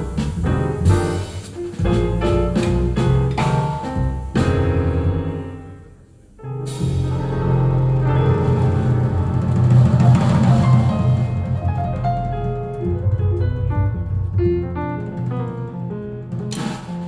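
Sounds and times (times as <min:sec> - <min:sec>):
heavy bass: 0:00.0 - 0:05.7, 0:06.6 - 0:15.6.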